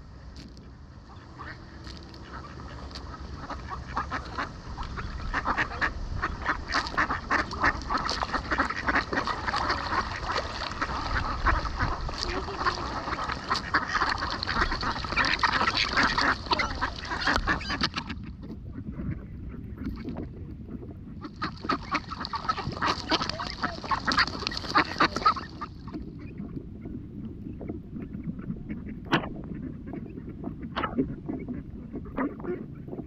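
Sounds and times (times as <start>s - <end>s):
ducks quacking: 1.0s - 20.1s, 21.2s - 26.9s, 27.9s - 33.0s.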